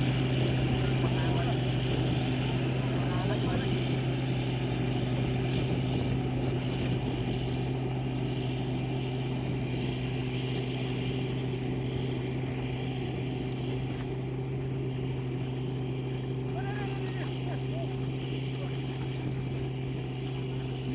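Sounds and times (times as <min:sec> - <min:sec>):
harvester engine droning: 0:00.0 - 0:20.9.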